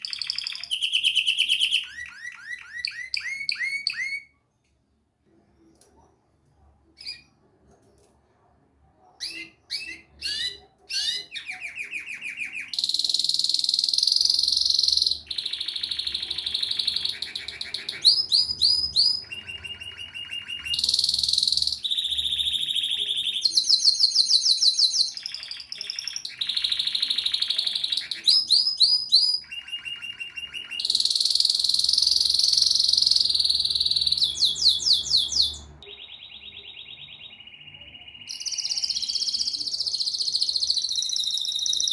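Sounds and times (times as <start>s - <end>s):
canary singing trills and chirps: 0.0s - 4.5s, 5.8s - 8.0s, 9.0s - 41.9s.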